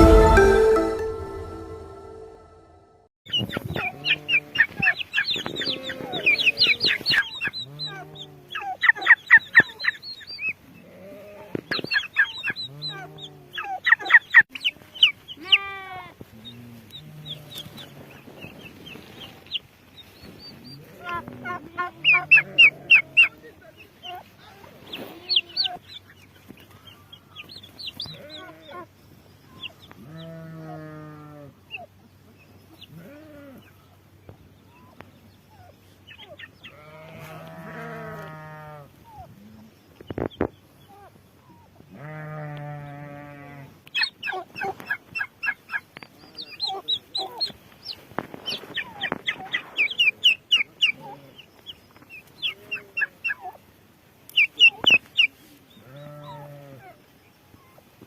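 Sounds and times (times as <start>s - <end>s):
turkey poults peeping: 3.3s - 30.8s, 31.6s - 33.0s, 33.6s - 41.7s, 43.8s - 58.0s.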